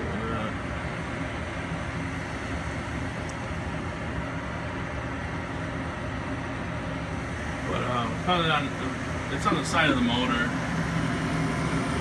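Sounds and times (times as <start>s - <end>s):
furnace fan humming: 0.0s - 12.0s.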